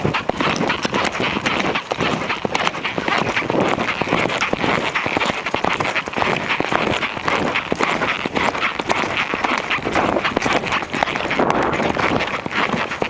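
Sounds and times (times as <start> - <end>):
horse hoofbeats: 0.0 - 13.0.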